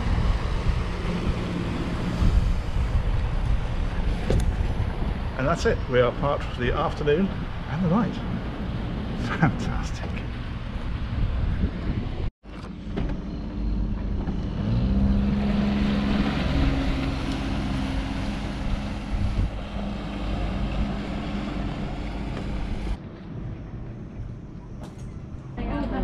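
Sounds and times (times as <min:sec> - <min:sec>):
wind rushing: 0:00.0 - 0:12.3, 0:14.8 - 0:23.6
motorboat engine running: 0:00.0 - 0:26.0.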